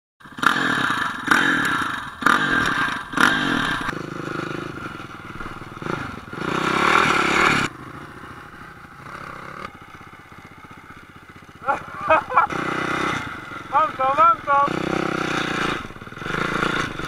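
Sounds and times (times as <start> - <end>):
dirt bike engine revving: 0.2 - 17.0.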